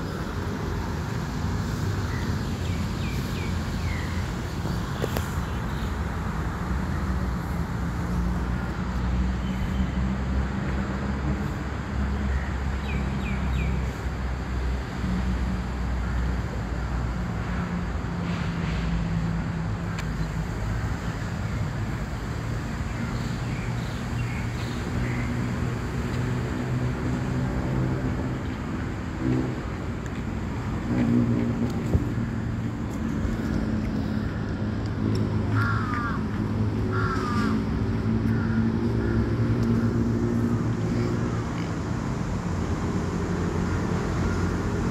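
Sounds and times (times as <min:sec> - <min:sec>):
traffic hum: 0:00.0 - 0:44.9.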